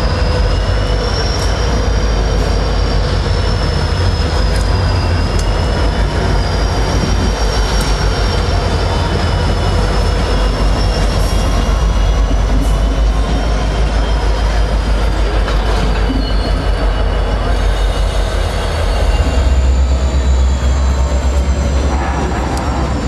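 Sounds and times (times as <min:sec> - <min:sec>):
diesel train rumbling: 0:00.0 - 0:23.0
high-pitched wheel squeal: 0:00.0 - 0:23.0.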